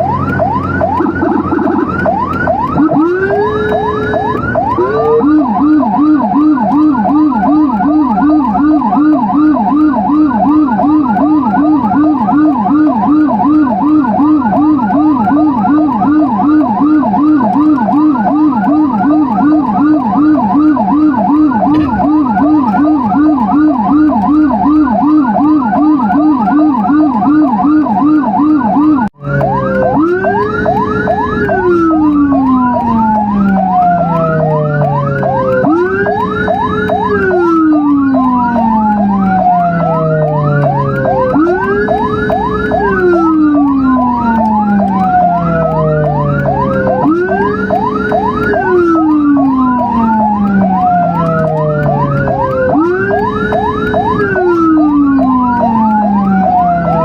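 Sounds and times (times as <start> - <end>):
fast yelp siren: 0.0 - 57.0
slow wail siren: 0.0 - 57.0.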